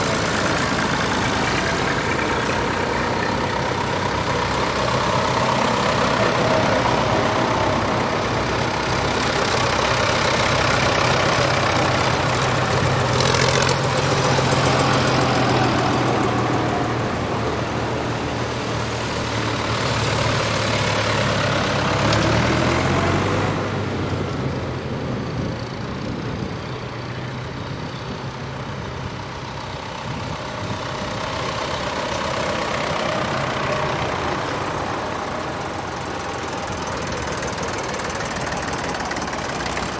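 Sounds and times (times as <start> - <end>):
tractor engines driving past: 0.0 - 39.9.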